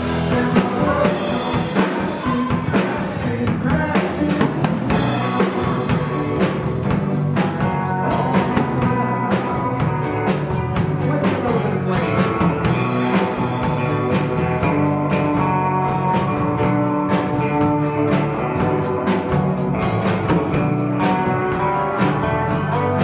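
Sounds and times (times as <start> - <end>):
drum kit steady beat: 0.0 - 23.0
electric bass: 0.0 - 23.0
electric guitars: 0.0 - 23.0.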